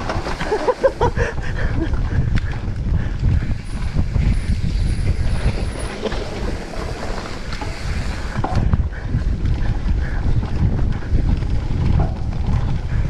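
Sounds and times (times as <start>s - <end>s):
bike rumbling and rattling: 0.0s - 13.0s
wind buffeting microphone: 0.0s - 13.0s.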